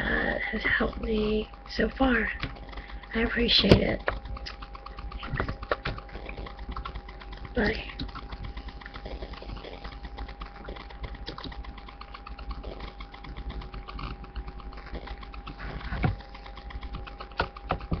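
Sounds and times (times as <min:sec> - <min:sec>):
electrical hum and buzz: 0:00.0 - 0:18.0
faint rapid clicking: 0:00.0 - 0:18.0.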